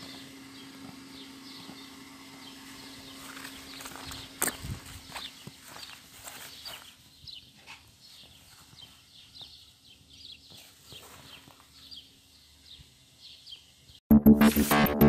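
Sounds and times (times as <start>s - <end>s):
faint small birds chirping: 0.0s - 14.0s.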